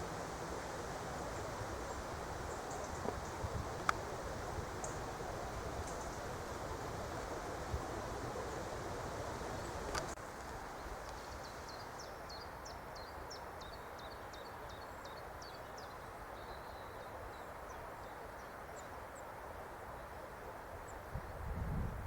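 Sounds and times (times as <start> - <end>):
songbird singing: 0.0 - 20.2
outdoor background noise: 0.0 - 22.0.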